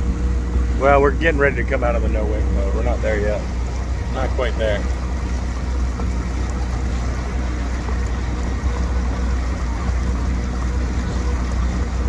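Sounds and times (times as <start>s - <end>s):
jet ski engine droning: 0.0s - 12.0s
water noise: 0.0s - 12.0s.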